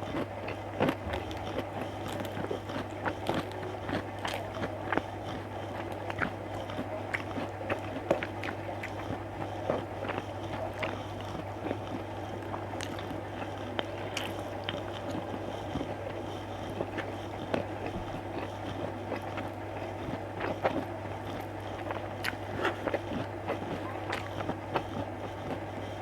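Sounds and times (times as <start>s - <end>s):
person chewing food: 0.0s - 26.0s
steady low hum: 0.0s - 26.0s.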